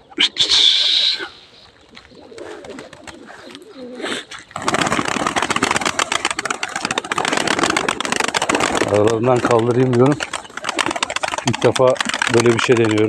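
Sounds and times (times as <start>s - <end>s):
pigeons cooing: 0.0s - 13.0s
pigeon wingbeats taking off: 1.9s - 13.0s.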